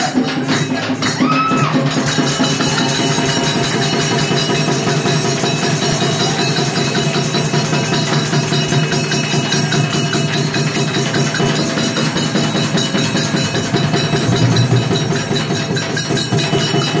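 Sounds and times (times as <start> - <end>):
music with fast percussion beat: 0.0 - 17.0.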